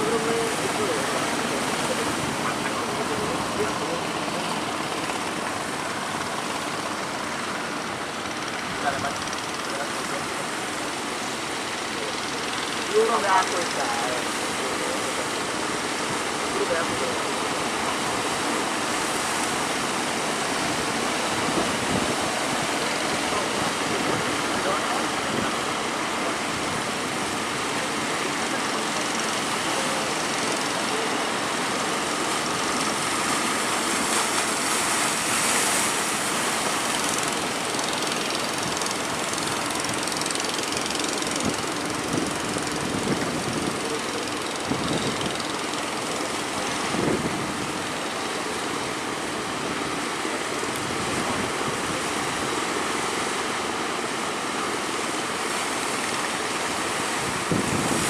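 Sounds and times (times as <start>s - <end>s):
breaking surf: 0.0s - 58.0s
wind: 0.0s - 58.0s.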